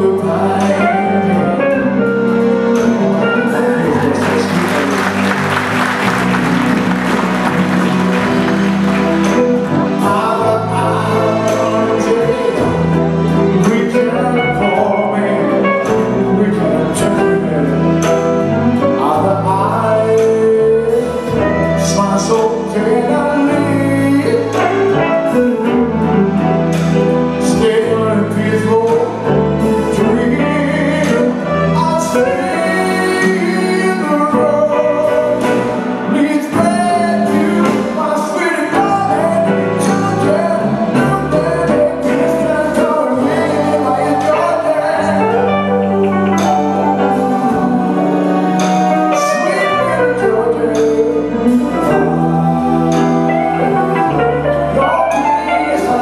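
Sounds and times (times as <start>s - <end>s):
person singing: 0.0s - 6.4s, 8.3s - 56.0s
live band playing pop song: 0.0s - 56.0s.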